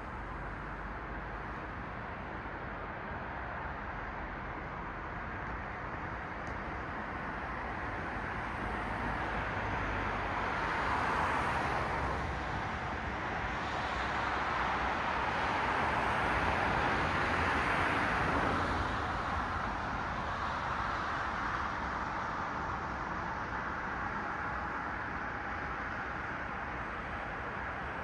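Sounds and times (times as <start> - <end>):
cars passing on road: 0.0 - 28.0.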